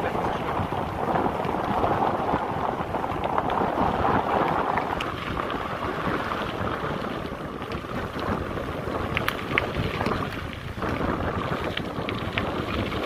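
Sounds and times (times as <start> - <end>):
bike tyres crunching on gravel: 0.0 - 13.0
wind on microphone: 0.0 - 13.0.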